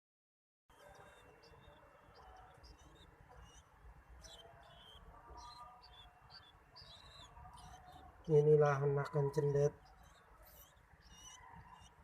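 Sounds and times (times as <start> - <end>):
bird chick begging chirps: 0.7 - 12.0.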